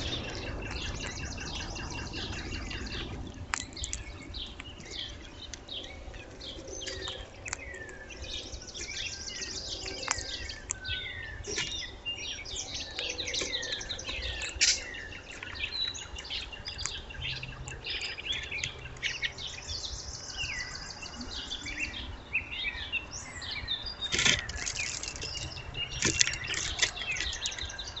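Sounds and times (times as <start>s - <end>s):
low background rumble: 0.0s - 28.0s
songbirds chirping and whistling: 0.0s - 28.0s.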